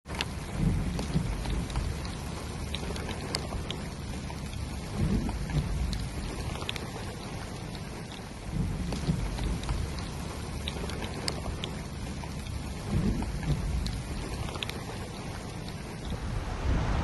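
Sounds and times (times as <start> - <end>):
sharp raindrop impacts ticking: 0.0 - 16.3
rain falling: 0.0 - 17.0
low rumbles: 0.1 - 17.0.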